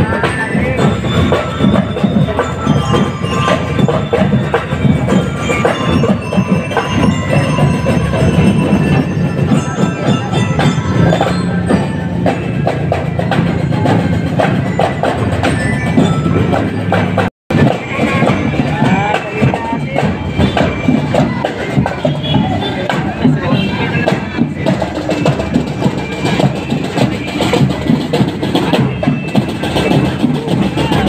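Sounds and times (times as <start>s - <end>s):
bell lyres ringing a melody: 0.0s - 31.0s
marching drums beat: 0.0s - 31.0s.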